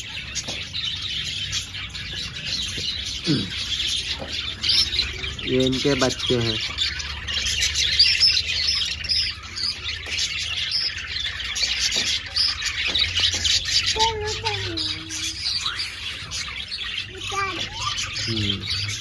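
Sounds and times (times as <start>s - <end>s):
budgerigars chattering and chirping: 0.0s - 19.0s.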